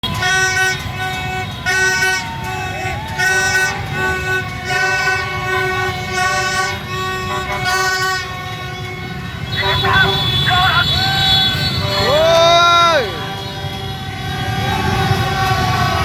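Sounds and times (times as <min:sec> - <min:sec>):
horns blaring: 0:00.0 - 0:16.0
crowd shouting: 0:01.0 - 0:16.0.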